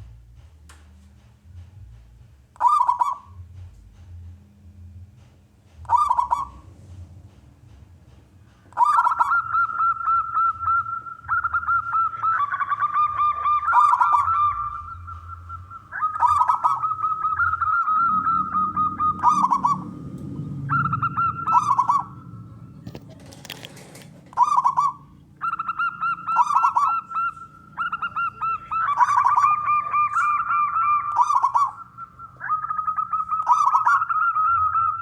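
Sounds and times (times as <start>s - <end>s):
dove cooing: 2.6s - 3.5s, 5.8s - 6.8s, 8.6s - 35.0s.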